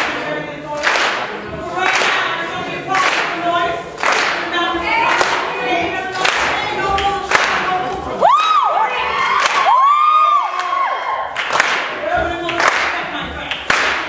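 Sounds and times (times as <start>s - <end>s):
rhythmic claps or stomps: 0.0s - 14.0s.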